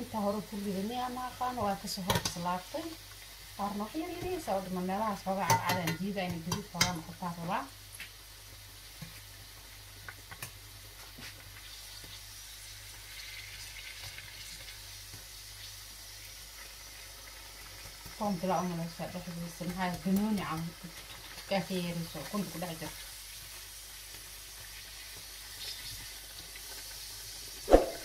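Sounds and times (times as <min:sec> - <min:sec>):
deep-frying sizzle: 0:00.0 - 0:28.0.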